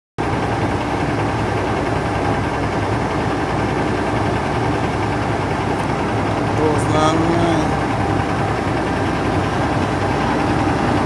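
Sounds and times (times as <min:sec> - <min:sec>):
diesel truck engine idling: 0:00.2 - 0:11.0.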